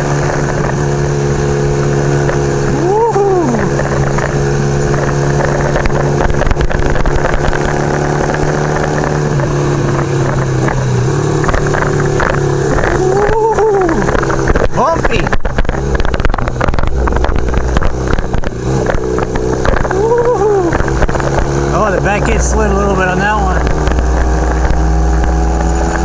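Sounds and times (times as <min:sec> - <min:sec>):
wind rush: 0:00.0 - 0:22.5
motorcycle engine running: 0:00.0 - 0:26.0
rising and falling tone: 0:02.2 - 0:09.4, 0:11.4 - 0:15.2, 0:16.2 - 0:26.0.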